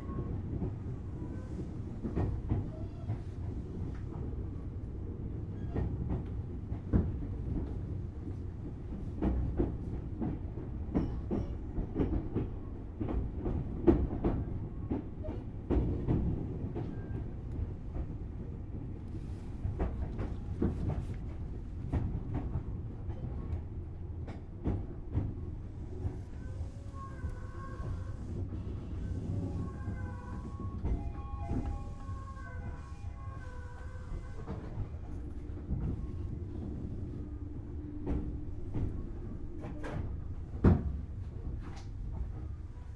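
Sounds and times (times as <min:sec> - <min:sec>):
train interior low rumble: 0:00.0 - 0:42.9.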